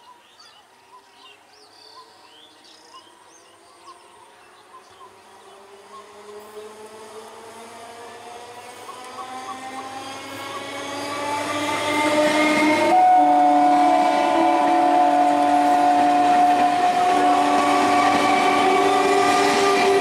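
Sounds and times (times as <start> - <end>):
train passing at speed: 0.9 - 20.0
steady tones from train: 1.9 - 20.0
rumbling of train coaches: 2.0 - 20.0.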